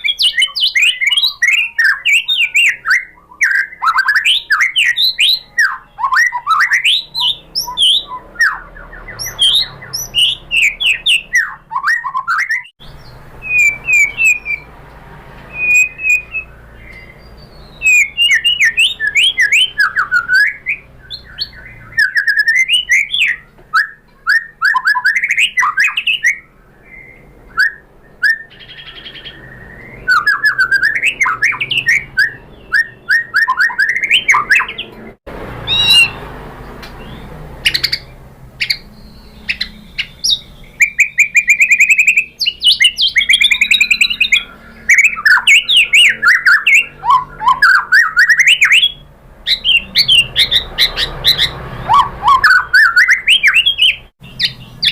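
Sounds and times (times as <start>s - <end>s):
bird singing whistled phrases: 0.0s - 14.7s, 15.5s - 35.0s, 35.6s - 36.2s, 37.0s - 54.9s.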